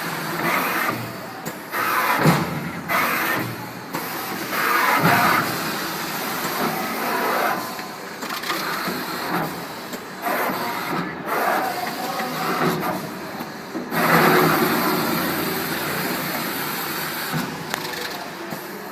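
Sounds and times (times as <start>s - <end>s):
printing machine running: 0.0s - 18.9s.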